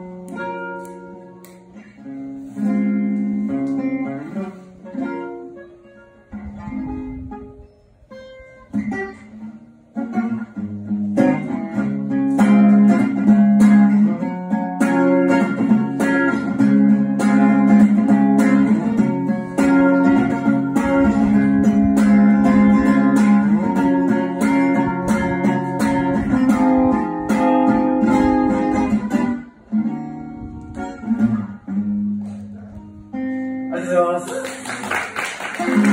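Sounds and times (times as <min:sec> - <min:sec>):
guitar strummed chords: 0:00.0 - 0:34.2.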